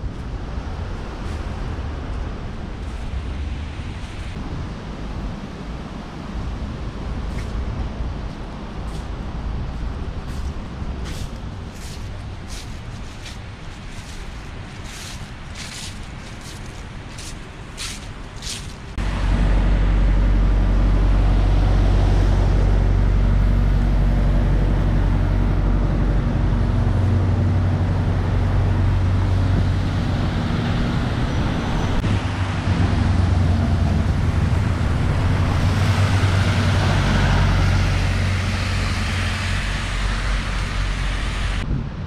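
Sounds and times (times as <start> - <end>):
bus diesel engine running: 0.0 - 41.6
low traffic drone: 0.0 - 42.0
tyres hissing on wet road: 5.0 - 19.9, 20.6 - 41.6.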